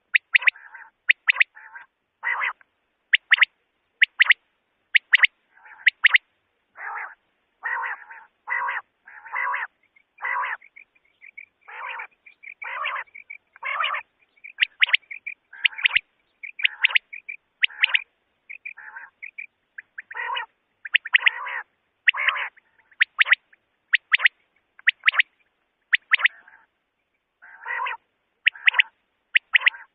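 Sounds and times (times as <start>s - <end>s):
quail calling rough notes: 0.0s - 26.8s, 27.4s - 29.9s.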